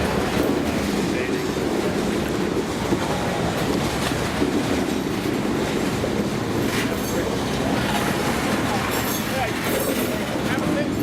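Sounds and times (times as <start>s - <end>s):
diesel locomotive engine drone: 0.0s - 11.0s
train wheels clicking over rails: 0.0s - 11.0s.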